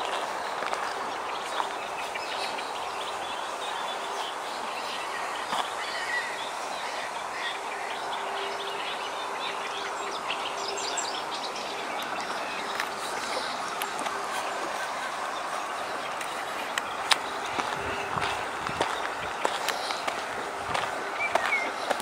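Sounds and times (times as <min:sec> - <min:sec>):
outdoor background hiss: 0:00.0 - 0:22.0
small birds chirping: 0:00.0 - 0:22.0.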